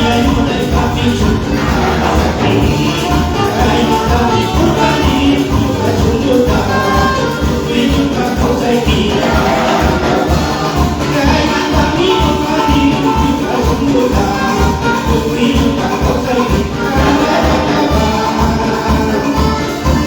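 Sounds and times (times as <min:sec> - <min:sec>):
live latin band music: 0:00.0 - 0:20.0.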